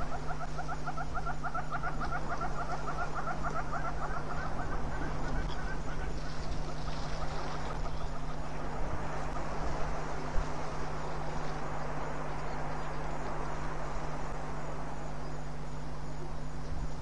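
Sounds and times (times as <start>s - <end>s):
outdoor background hiss: 0.0s - 17.0s
steady low hum: 0.0s - 17.0s.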